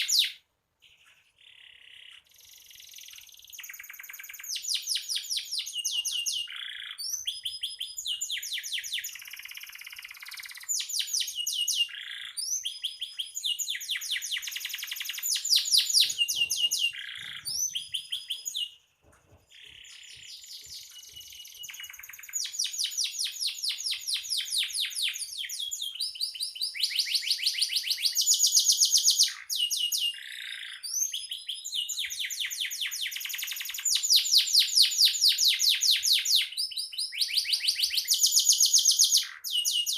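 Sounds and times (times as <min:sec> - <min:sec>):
canary singing trills: 0:00.0 - 0:18.9, 0:19.5 - 0:39.9.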